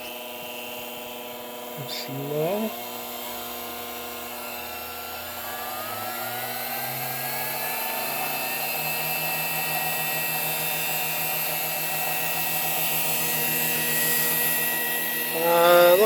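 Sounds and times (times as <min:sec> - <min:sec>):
drill press motor whining: 0:00.0 - 0:16.0.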